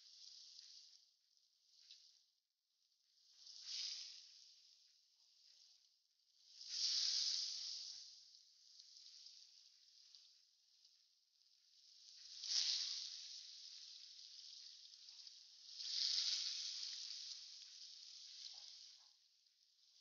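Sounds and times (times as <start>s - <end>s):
pork fat sizzling in a pan: 0.0s - 1.0s, 3.2s - 20.0s.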